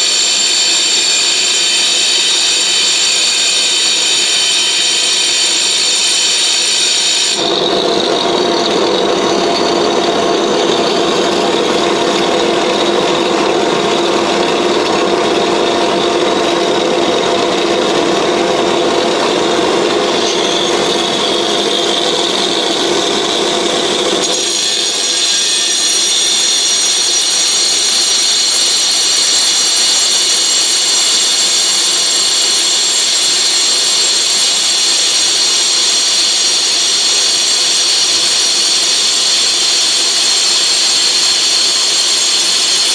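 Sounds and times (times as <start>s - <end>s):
angle grinder running: 0.0s - 42.9s.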